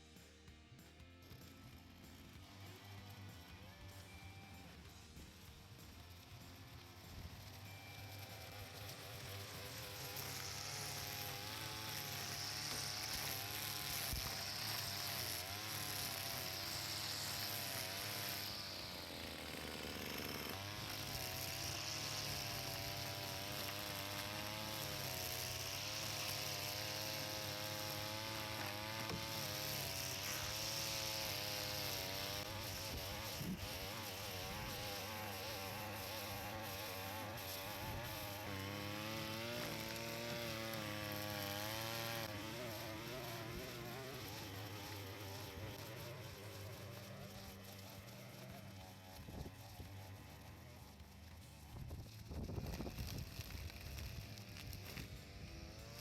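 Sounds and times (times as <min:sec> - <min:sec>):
brush cutter engine cutting grass: 0:00.0 - 0:56.0.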